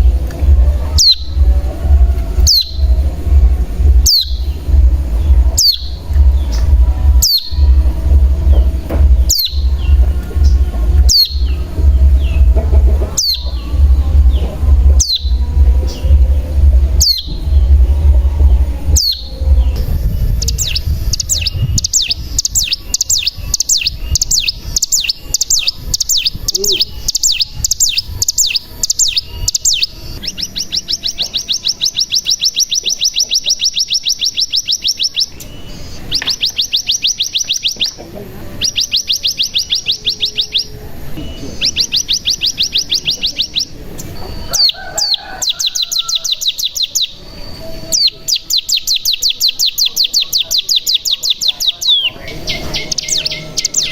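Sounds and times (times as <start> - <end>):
bird fast trill: 0.0 - 53.9
bird singing high sharp notes: 0.0 - 53.9.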